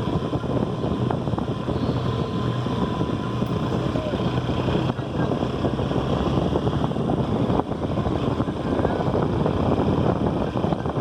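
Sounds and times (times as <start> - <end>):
motorcycle engine rumble: 0.0 - 11.0
road and wind noise: 0.0 - 11.0.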